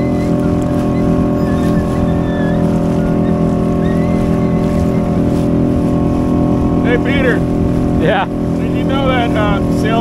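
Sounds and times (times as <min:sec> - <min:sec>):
outboard motor running: 0:00.0 - 0:10.0
water splashing along hull: 0:00.0 - 0:10.0.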